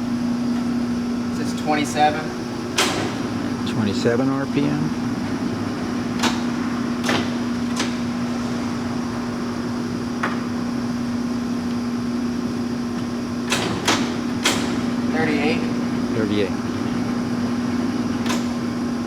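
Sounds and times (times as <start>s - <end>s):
lathe motor hum: 0.0s - 19.0s.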